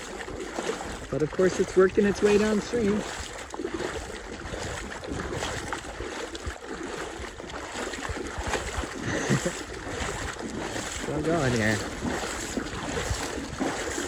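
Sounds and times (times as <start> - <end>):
water sloshing around wading legs: 0.0 - 14.0
wind buffeting microphone: 0.0 - 14.0.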